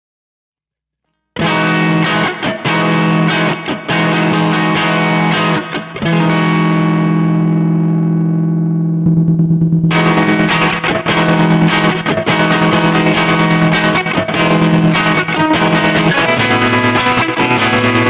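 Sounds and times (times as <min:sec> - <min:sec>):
stuttering distorted electric guitar: 0:01.4 - 0:18.0.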